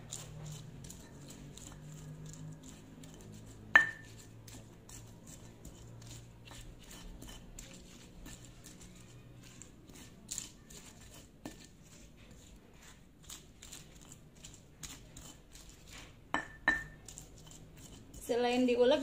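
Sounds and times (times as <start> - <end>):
stone pestle grinding on stone: 0.0 - 19.0.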